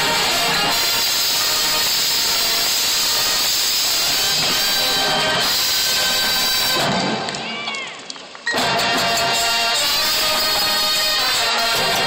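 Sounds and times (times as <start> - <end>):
marching band playing loudly: 0.0 - 7.2, 8.5 - 12.0.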